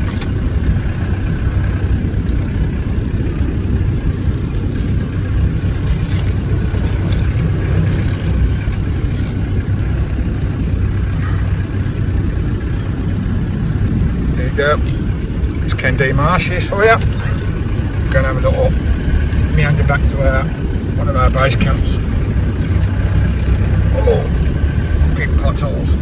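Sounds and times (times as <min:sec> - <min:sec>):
light clicks and rattles: 0:00.0 - 0:13.3, 0:13.9 - 0:26.0
vehicle engine and road rumble: 0:00.0 - 0:26.0.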